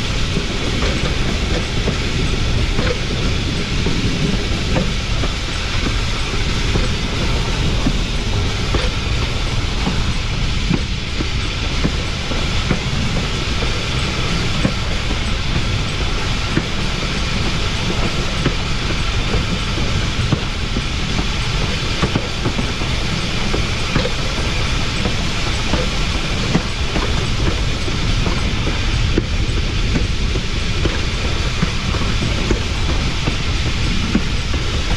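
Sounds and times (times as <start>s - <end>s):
locomotive wheels rumbling on rail: 0.0s - 34.9s
rail joint clicks and knocks: 0.0s - 34.9s.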